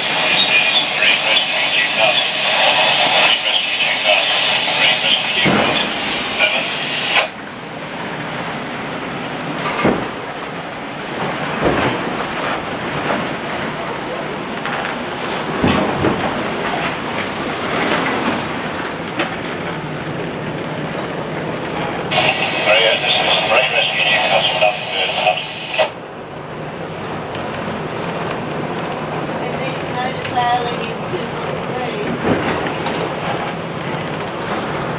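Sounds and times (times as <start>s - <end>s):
wind and sea rushing: 0.0s - 34.9s.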